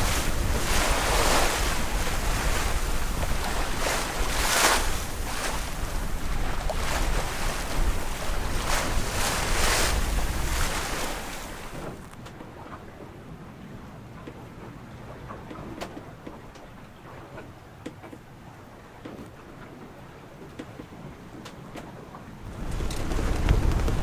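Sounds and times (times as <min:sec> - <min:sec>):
wind buffeting microphone: 0:00.0 - 0:17.4, 0:20.8 - 0:24.0
rushing water: 0:00.0 - 0:24.0.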